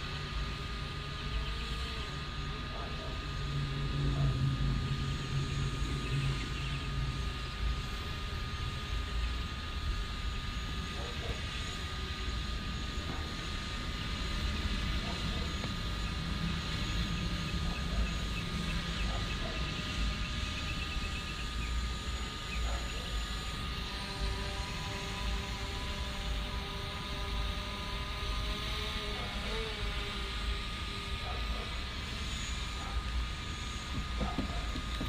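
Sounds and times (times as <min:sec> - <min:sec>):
drone propellers buzzing: 0:00.0 - 0:35.0.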